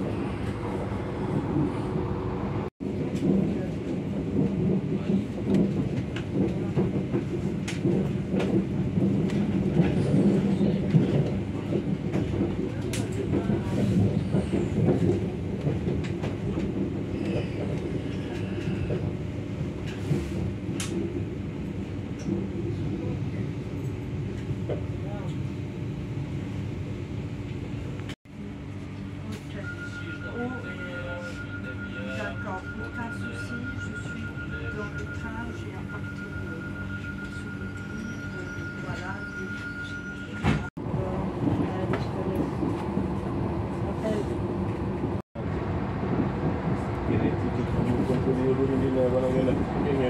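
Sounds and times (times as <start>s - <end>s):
train wheels rumbling on track: 0.0s - 50.0s.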